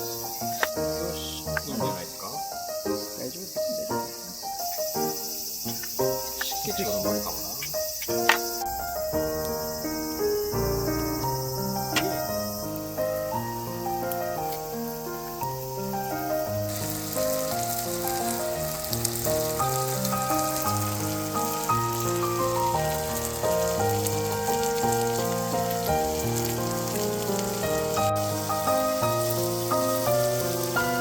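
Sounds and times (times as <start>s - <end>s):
background music: 0.0s - 31.0s
chicken sizzling in a pan: 0.0s - 31.0s.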